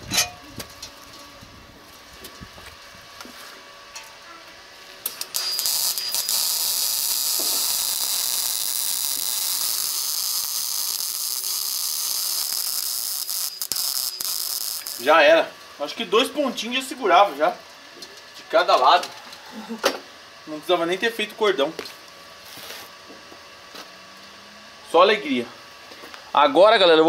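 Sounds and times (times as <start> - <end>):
arc welding crackling hiss: 0.0 - 24.3.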